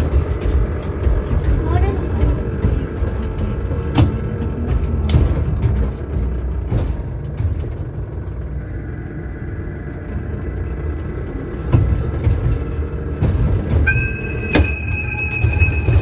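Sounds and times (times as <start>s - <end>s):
train wheels and motor rumbling: 0.0s - 16.0s.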